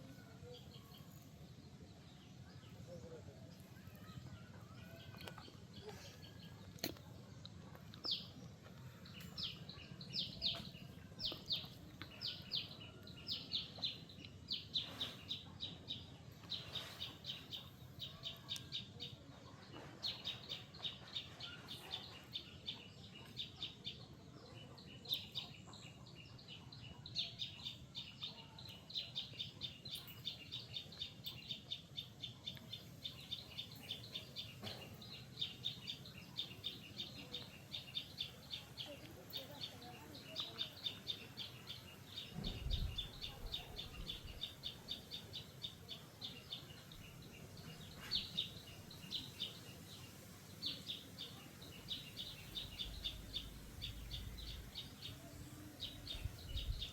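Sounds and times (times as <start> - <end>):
small bird chirping: 0.0 - 56.9.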